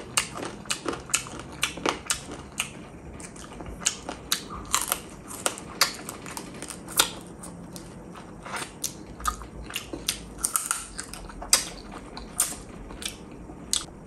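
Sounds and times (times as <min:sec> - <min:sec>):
person chewing crunchy food: 0:00.0 - 0:13.9
sharp crunches and clicks: 0:00.2 - 0:13.9.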